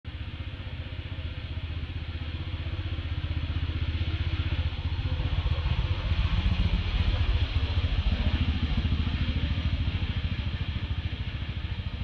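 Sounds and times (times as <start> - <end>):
vehicle engine running: 0.1 - 12.0.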